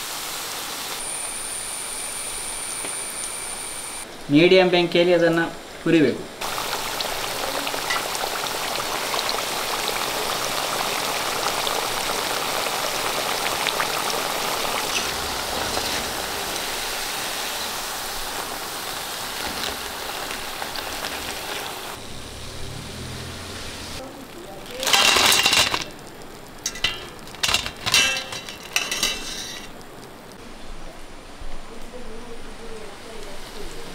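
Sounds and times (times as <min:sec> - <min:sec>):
food deep-frying in oil: 0:00.0 - 0:04.0, 0:06.4 - 0:30.4.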